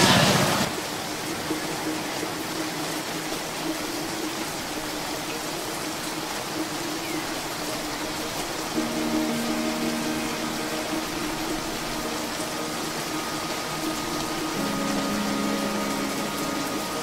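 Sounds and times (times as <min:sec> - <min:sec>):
rain hissing: 0:00.0 - 0:17.0.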